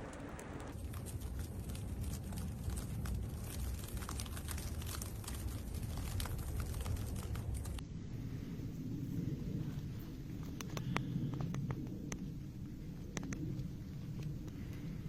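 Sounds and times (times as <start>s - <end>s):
small crackling ticks: 0.0s - 7.8s, 10.4s - 15.0s.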